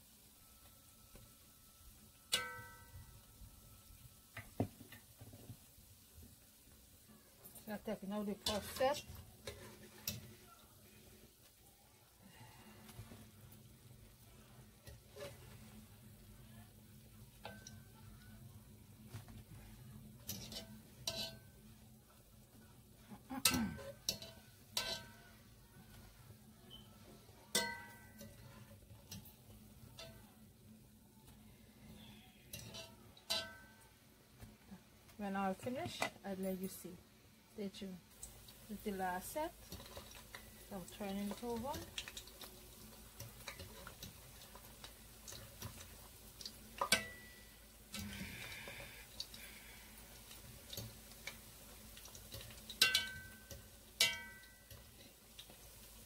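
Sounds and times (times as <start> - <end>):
food frying in hot oil: 0.0 - 34.4, 36.6 - 56.0.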